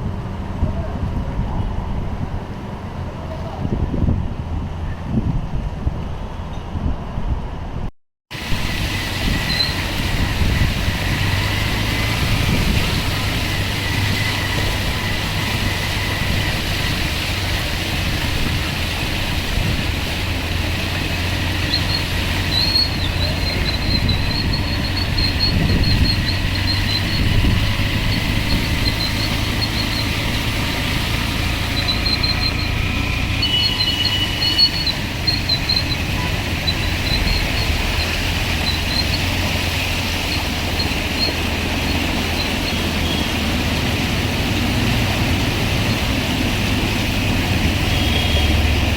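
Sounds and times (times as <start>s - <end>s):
road traffic rumble: 0.0s - 48.9s.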